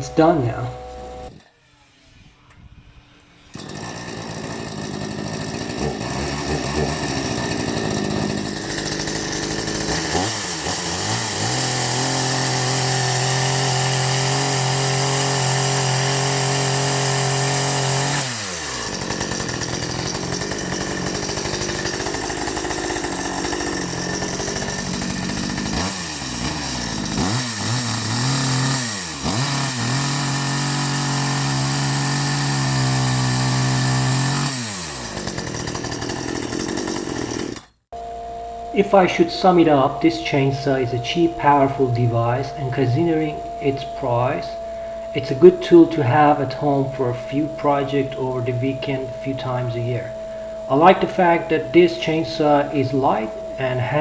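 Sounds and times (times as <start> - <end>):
chainsaw revving: 0.0 - 1.4, 3.5 - 54.0.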